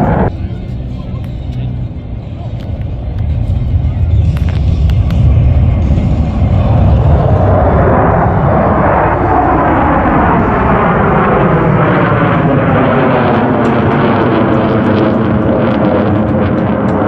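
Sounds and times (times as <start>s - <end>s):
jet roar flying past: 0.0s - 17.0s.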